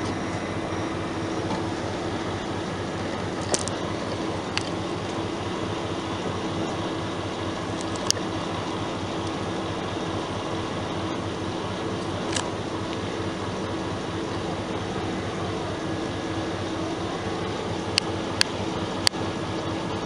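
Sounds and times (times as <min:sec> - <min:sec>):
diesel locomotive idling hum: 0:00.0 - 0:20.0.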